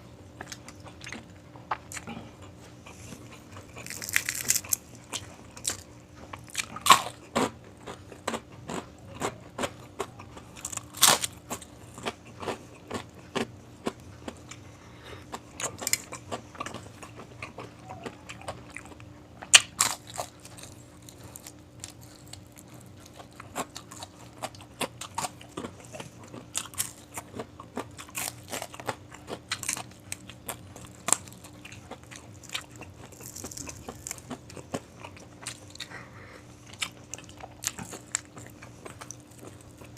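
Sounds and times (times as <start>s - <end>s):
crunching and chewing crispy food: 0.2s - 39.9s.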